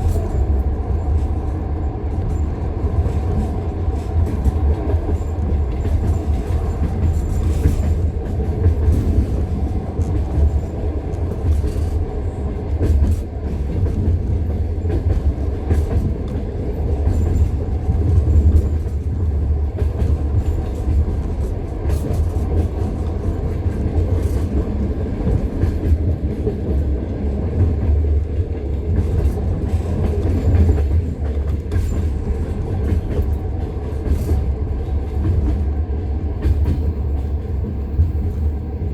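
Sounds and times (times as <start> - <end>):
train wheels clacking over rail joints: 0.0 - 38.8
train rumbling: 0.0 - 38.9.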